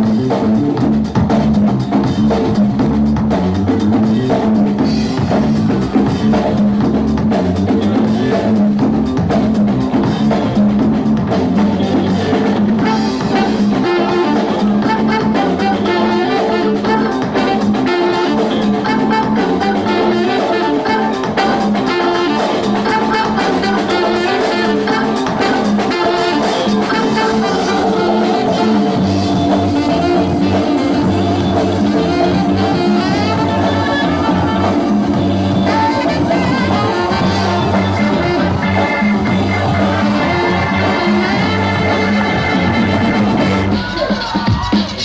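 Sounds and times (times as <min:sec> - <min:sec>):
breakbeat music with brass: 0:00.0 - 0:45.0
heavy bass line: 0:00.0 - 0:45.0.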